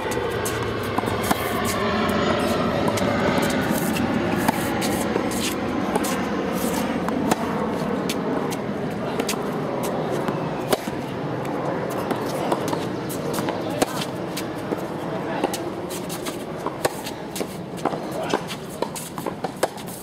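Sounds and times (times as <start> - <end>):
steady background noise: 0.0 - 20.0
tennis balls struck by rackets: 0.0 - 20.0.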